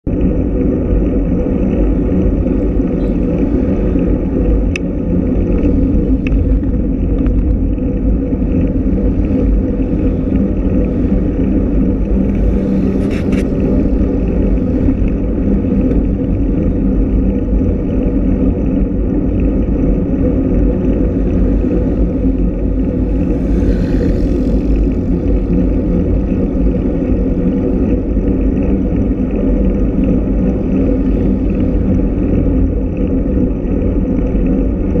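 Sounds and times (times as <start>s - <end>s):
wind and road rumble: 0.0s - 35.0s.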